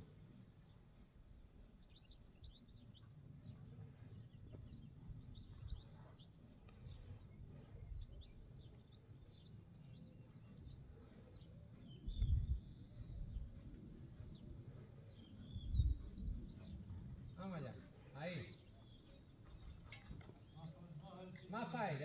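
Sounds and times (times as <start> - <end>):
steady low rumble: 0.0 - 20.2
small birds chirping: 0.0 - 22.0.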